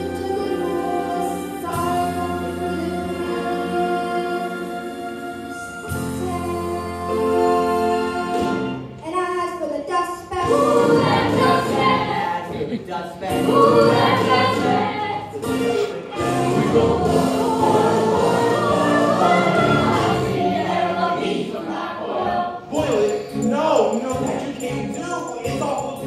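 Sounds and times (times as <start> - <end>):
choir singing: 0.0 - 8.9, 10.3 - 25.0
musical accompaniment: 0.0 - 9.5, 10.2 - 26.0.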